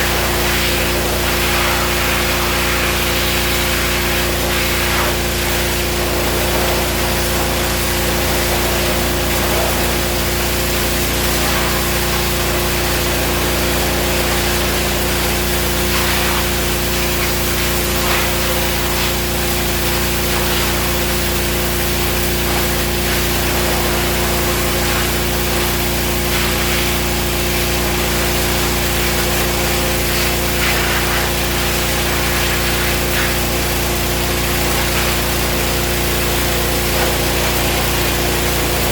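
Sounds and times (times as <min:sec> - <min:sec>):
pressure washer engine running: 0:00.0 - 0:38.9
water spray hissing on surface: 0:00.0 - 0:38.9.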